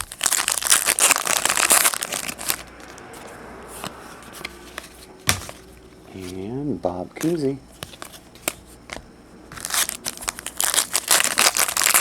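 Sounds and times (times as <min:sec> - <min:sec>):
trading cards rustling: 0:00.0 - 0:06.5, 0:07.2 - 0:12.0.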